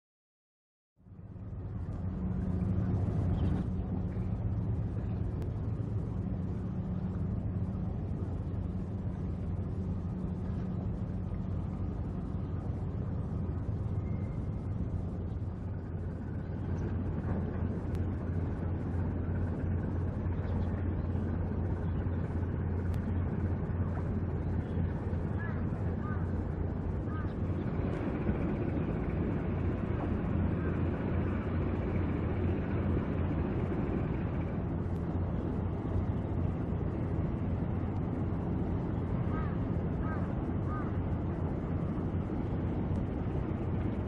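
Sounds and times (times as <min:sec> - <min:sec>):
ship's diesel engine droning: 0:01.1 - 0:44.0.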